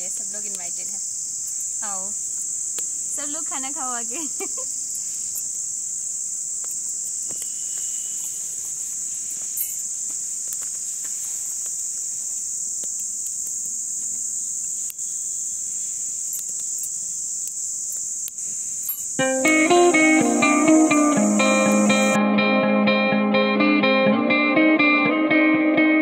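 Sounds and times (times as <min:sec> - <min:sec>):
insects buzzing: 0:00.0 - 0:22.2
wood fire crackling: 0:00.0 - 0:22.2.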